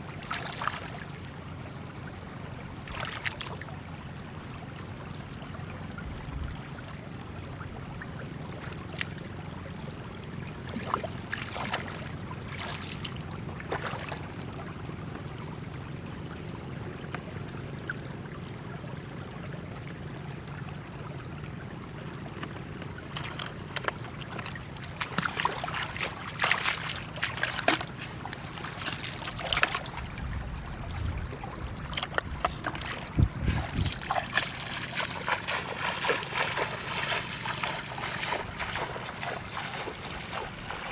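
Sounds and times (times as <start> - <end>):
water trickling and splashing: 0.0 - 40.9
steady low hum: 4.5 - 40.9.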